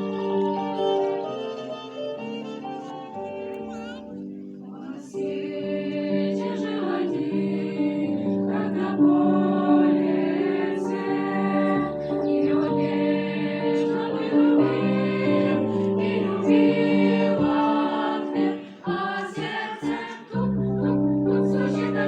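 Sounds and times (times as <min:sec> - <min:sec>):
choir singing: 0:00.0 - 0:22.0.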